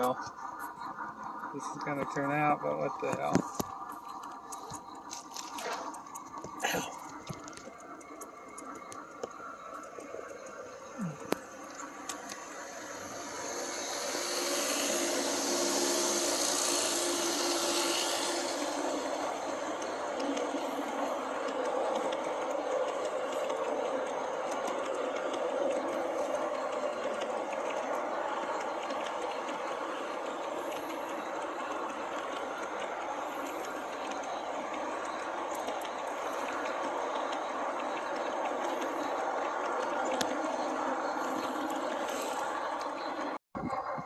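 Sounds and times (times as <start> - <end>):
steady hum: 0.0 - 43.4
model locomotive motors whirring: 0.0 - 44.0
wheels rolling on rails: 0.0 - 44.0.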